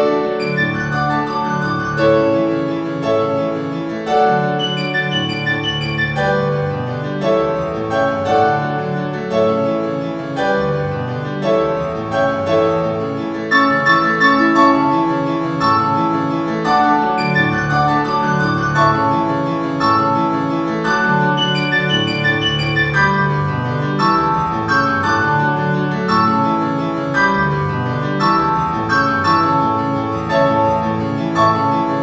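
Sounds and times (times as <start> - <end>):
piano waltz: 0.0 - 32.0.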